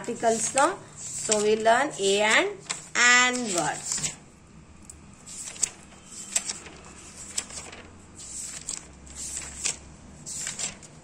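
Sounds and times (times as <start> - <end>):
notebook pages rustling: 0.1 - 4.2, 5.3 - 11.0.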